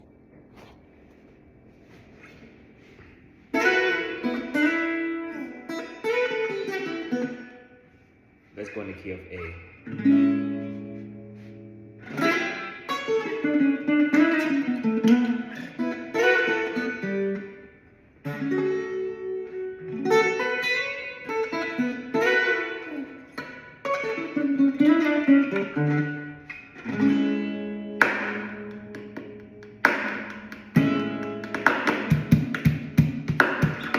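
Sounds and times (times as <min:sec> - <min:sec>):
solo guitar melody: 0:03.4 - 0:08.7, 0:09.4 - 0:33.9.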